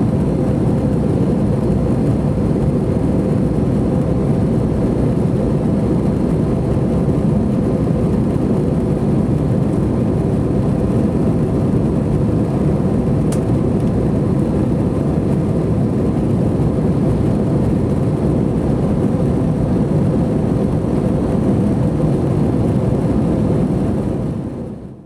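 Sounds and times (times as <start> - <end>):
jet engines and airflow in cabin: 0.0 - 25.0.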